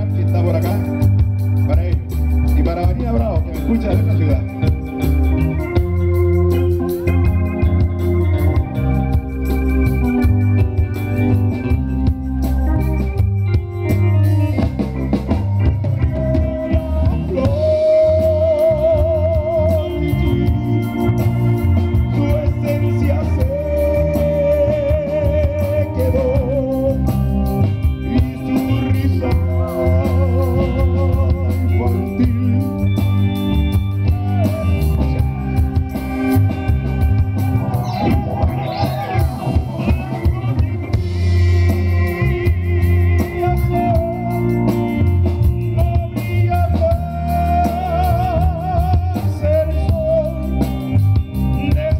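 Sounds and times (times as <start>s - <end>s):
congas: 0.0s - 51.9s
drum kit beat: 0.0s - 51.9s
electric bass: 0.0s - 51.9s
organ-like keyboard melody: 0.0s - 51.9s.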